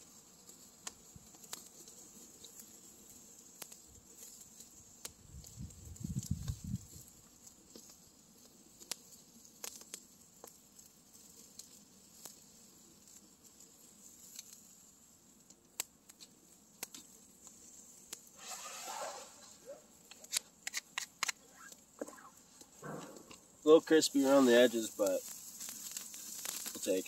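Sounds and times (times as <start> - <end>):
campfire crackling: 0.0 - 27.0
rustle: 0.0 - 27.0.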